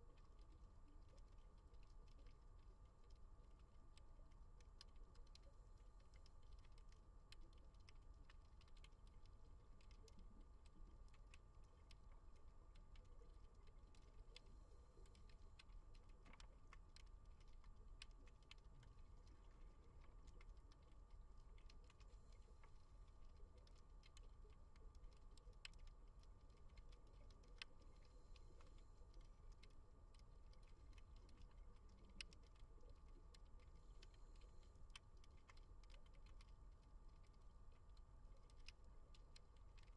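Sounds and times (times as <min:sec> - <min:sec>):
underwater clicks and crackles: 0:00.0 - 0:39.9.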